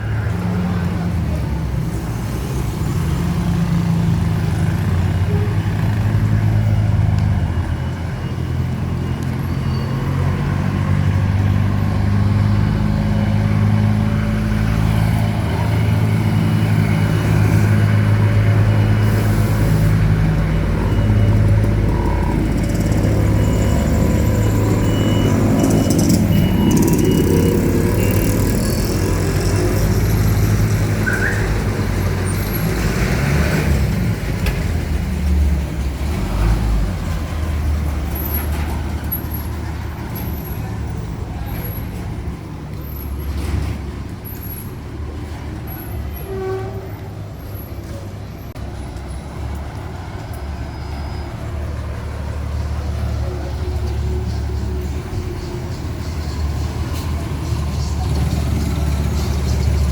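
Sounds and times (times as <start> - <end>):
street noise: 0.0 - 59.9.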